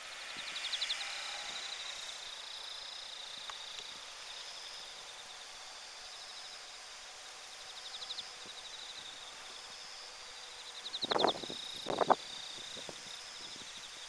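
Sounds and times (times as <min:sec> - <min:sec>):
crickets trilling: 0:00.0 - 0:14.0
steady hiss: 0:00.0 - 0:14.0.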